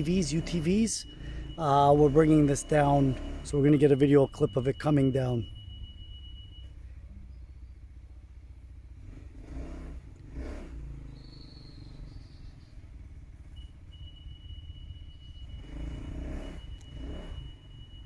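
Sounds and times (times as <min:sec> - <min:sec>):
utility vehicle engine rumbling: 0:00.0 - 0:18.0.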